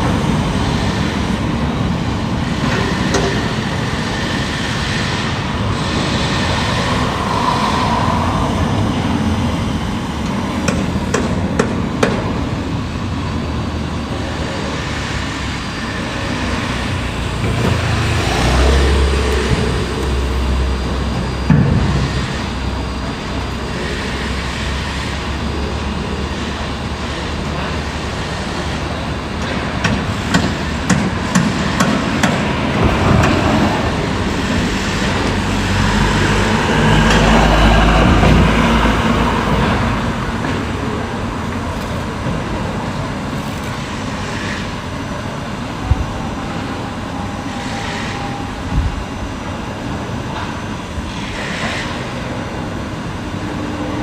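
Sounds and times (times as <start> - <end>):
heavy machinery running: 0.0 - 54.0.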